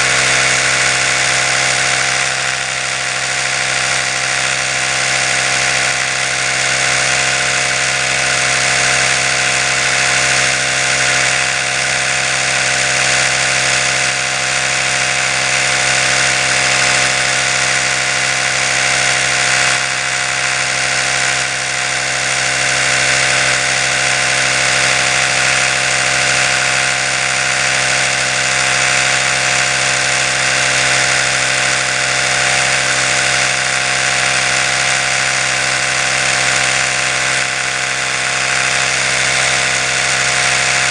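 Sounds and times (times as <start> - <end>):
electric toothbrush motor humming: 0.0 - 40.9.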